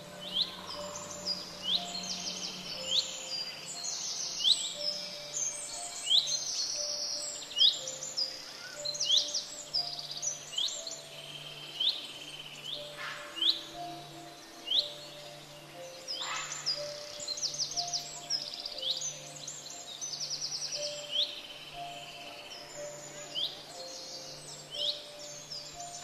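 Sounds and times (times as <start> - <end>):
birds chirping: 0.0 - 26.0
soft background music: 0.0 - 26.0.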